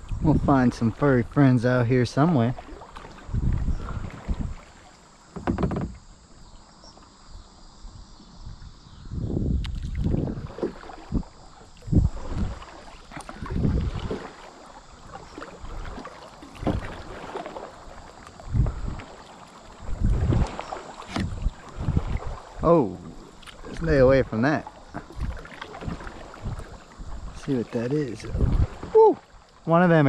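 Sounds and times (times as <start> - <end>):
paddle splashing in water: 0.0 - 7.2, 9.6 - 30.0.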